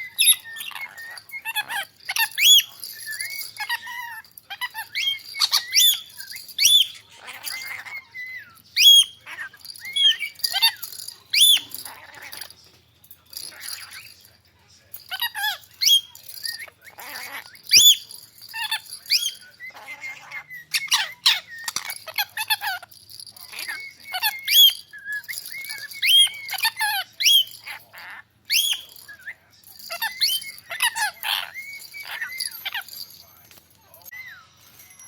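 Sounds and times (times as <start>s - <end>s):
parrot chirping and squeaking: 0.0s - 35.0s.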